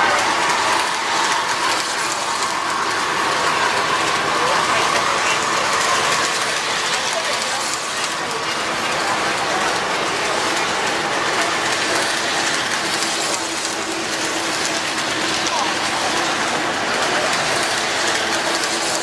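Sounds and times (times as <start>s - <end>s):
model train wheels clattering: 0.0s - 19.0s.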